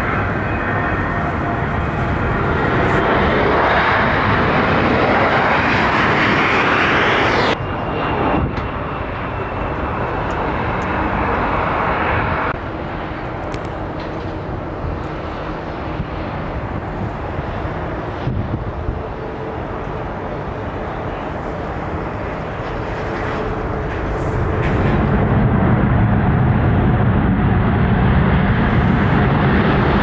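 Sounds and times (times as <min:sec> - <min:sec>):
jet engine noise: 0:00.0 - 0:30.0.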